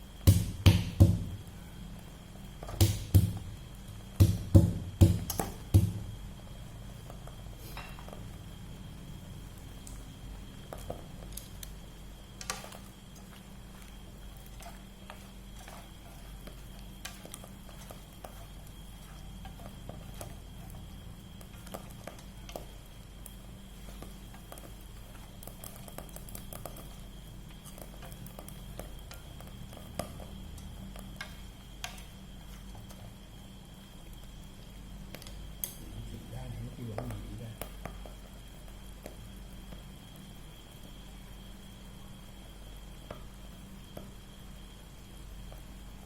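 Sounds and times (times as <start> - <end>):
food frying in oil: 0.0 - 46.0.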